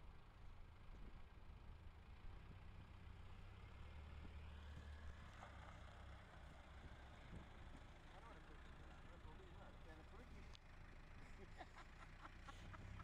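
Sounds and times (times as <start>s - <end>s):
diesel engine crawling at low revs: 0.2s - 13.0s.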